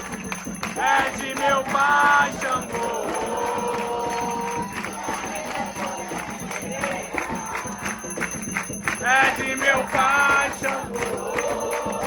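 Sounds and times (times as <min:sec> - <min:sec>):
group singing a hymn: 0:00.0 - 0:12.0
hand percussion beat: 0:00.0 - 0:12.0.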